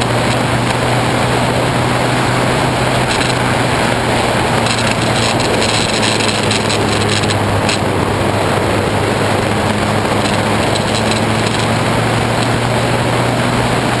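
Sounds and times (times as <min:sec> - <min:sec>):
dense rushing noise: 0:00.0 - 0:14.0
muffled motorcycle engine cruising: 0:00.0 - 0:14.0.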